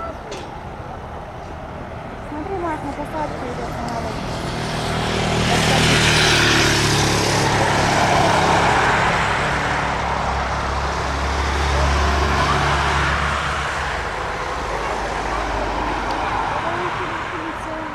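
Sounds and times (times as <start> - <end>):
jet engines taxiing: 0.0 - 17.9.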